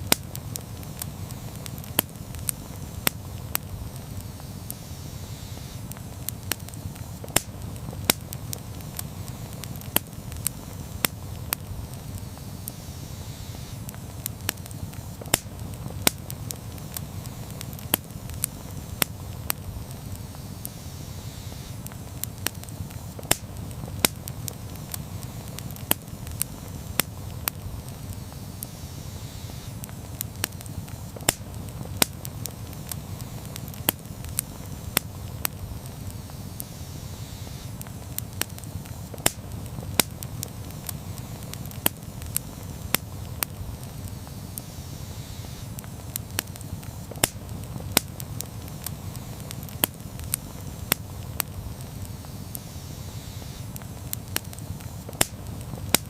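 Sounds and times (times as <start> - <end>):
burning wood popping and crackling: 0.0 - 56.0
flames rumbling: 0.0 - 56.0.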